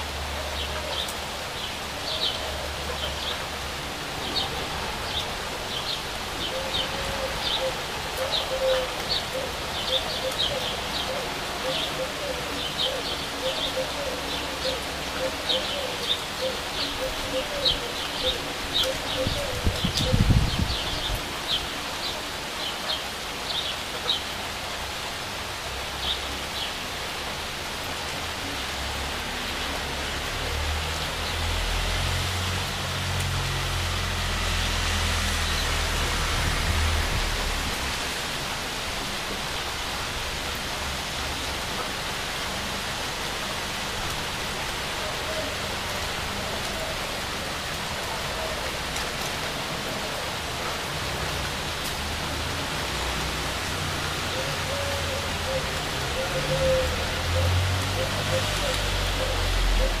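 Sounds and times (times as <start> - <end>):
rain falling on leaves: 0.0 - 60.0.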